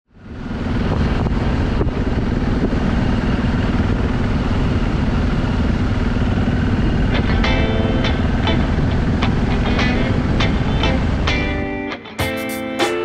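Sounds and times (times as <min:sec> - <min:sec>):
motorcycle engine running: 0:00.1 - 0:12.3.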